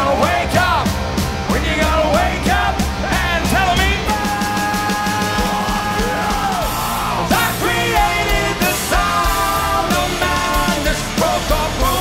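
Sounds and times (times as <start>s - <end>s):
lead vocalist singing: 0.0s - 12.0s
live hard rock band: 0.0s - 12.0s.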